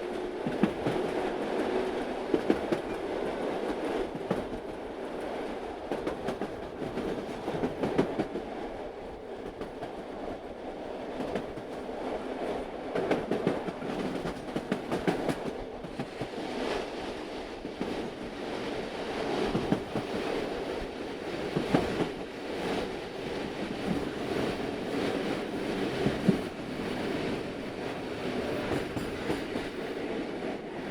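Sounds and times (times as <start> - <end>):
train rumbling: 0.0 - 30.9.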